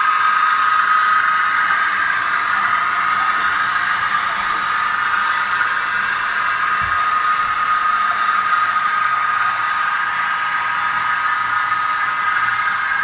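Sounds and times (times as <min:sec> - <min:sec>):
diesel engine through small speaker: 0:00.0 - 0:13.0.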